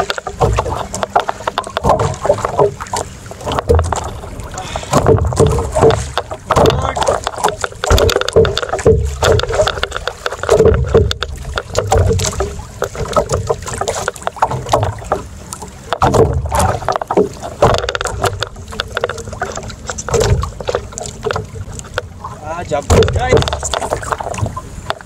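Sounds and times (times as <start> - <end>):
water splashing against boat hull: 0.0 - 25.0.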